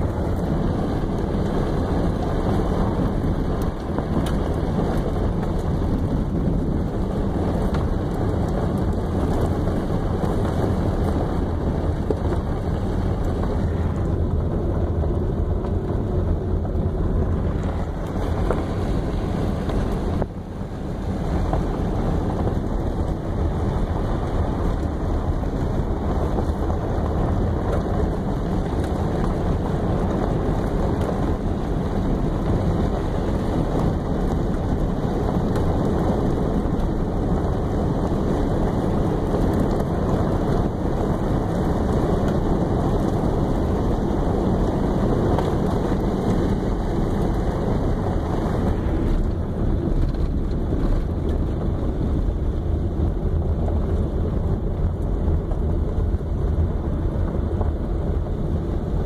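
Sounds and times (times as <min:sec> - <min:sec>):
wind buffeting microphone: 0:00.0 - 0:59.0
wind rush and road noise: 0:00.0 - 0:59.0.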